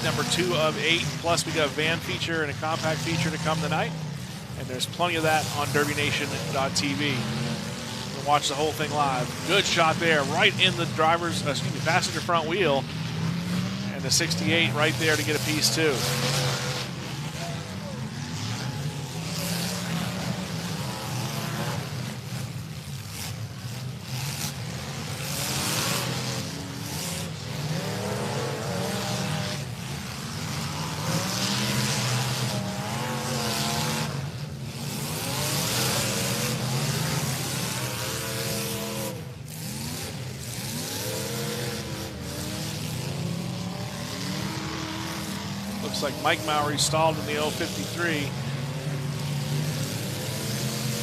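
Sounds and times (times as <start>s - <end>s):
car engines revving hard: 0.0s - 51.0s.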